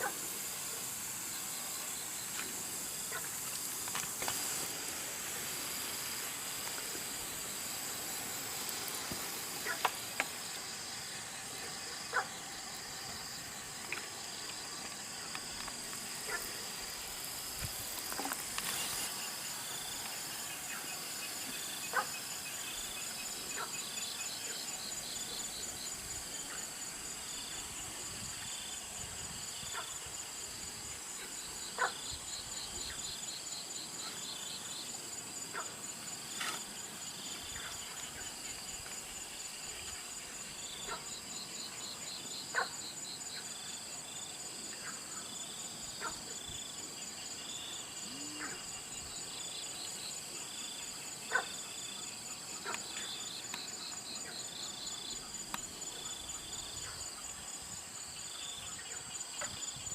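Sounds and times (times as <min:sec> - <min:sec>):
insect high continuous trill: 0:00.0 - 0:59.9
insect lower pulsing trill: 0:00.0 - 0:59.9.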